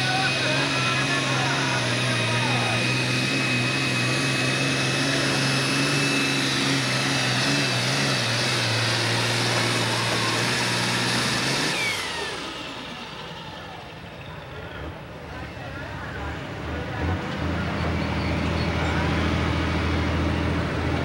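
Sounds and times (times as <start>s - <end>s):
tractor diesel engine at full load: 0.0s - 21.0s.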